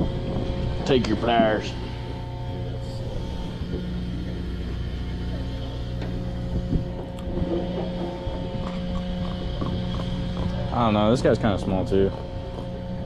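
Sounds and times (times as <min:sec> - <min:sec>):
boat machinery hum: 0:00.0 - 0:13.0.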